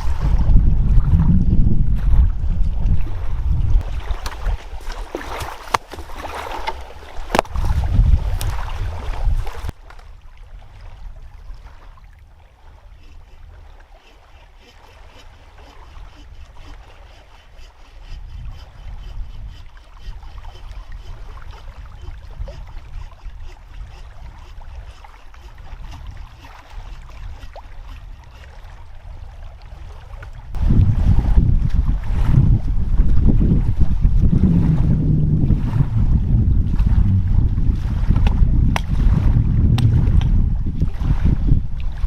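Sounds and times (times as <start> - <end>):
faint moving water: 0.0 - 42.0
wind rumble on microphone: 0.0 - 42.0.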